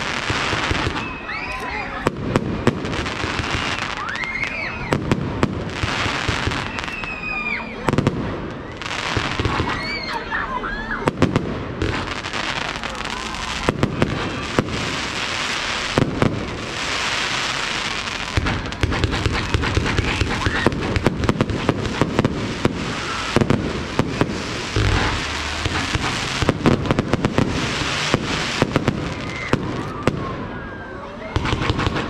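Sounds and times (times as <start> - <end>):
fireworks bangs: 0.0 - 32.0
fireworks crackling: 0.0 - 32.0.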